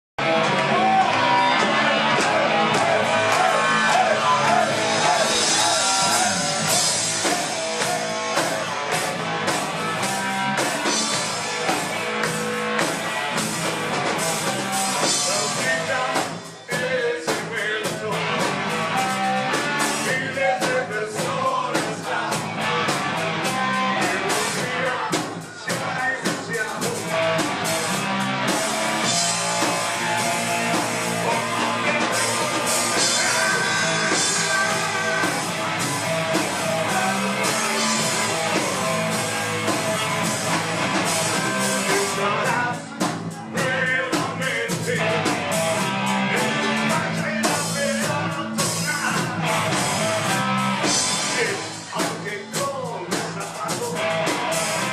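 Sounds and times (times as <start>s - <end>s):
drums: 0.1s - 54.9s
electric guitar: 0.2s - 54.9s
rock band playing live: 0.2s - 54.9s.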